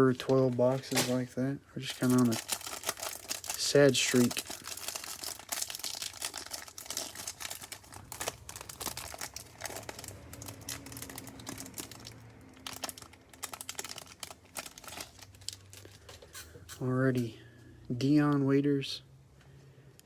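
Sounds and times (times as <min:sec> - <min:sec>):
plastic wrapper crinkling: 0:00.0 - 0:16.8.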